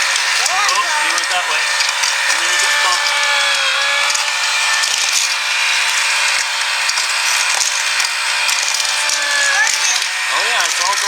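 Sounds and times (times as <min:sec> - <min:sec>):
toy motor whirring and rattling: 0:00.0 - 0:11.0.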